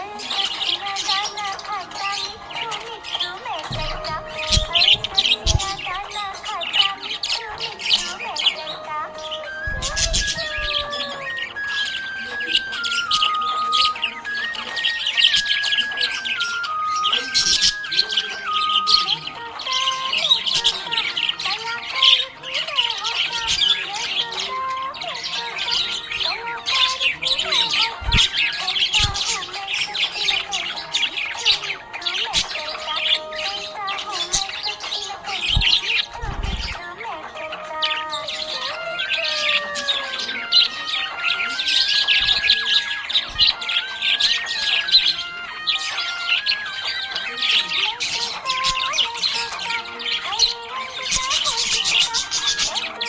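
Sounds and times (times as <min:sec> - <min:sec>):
budgerigar chirping: 0:00.0 - 0:53.0
slow background music: 0:00.0 - 0:53.0.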